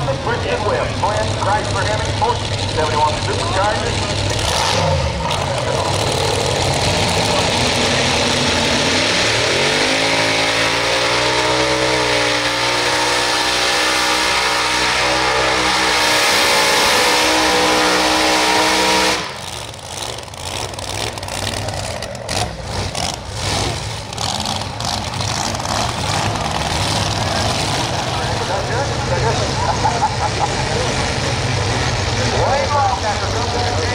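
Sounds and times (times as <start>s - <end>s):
engine low uneven rumble: 0.0s - 12.9s, 19.3s - 33.9s
supercharged engines at full throttle: 0.0s - 33.9s.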